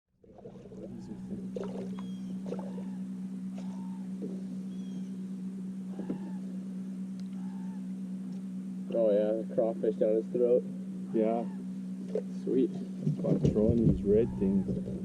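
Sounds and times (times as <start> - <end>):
boat motor humming: 0.1 - 15.0
birds calling: 0.2 - 15.0.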